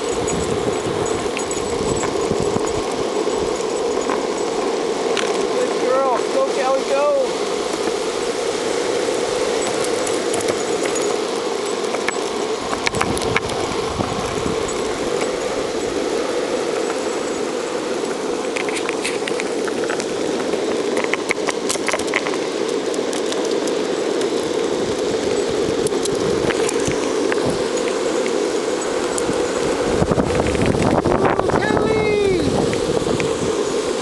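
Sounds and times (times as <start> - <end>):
longboard wheels rolling on pavement: 0.0 - 34.0.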